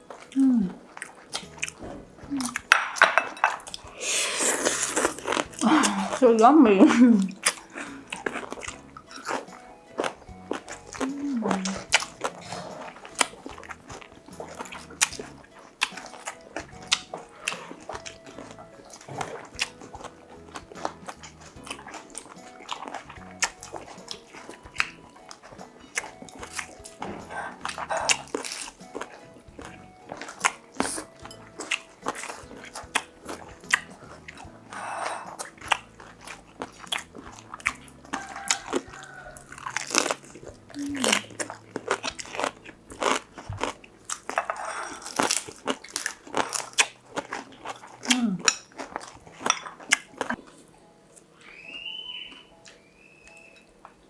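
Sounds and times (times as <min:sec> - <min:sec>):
person chewing crunchy food: 0:00.0 - 0:53.6
soft background music: 0:00.0 - 0:54.0.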